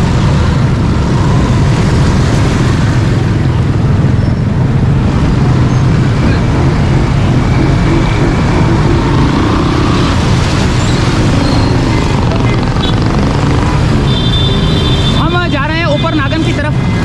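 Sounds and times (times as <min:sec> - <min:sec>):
low rumble of road traffic: 0:00.0 - 0:17.0
vehicle engines running: 0:00.0 - 0:17.0.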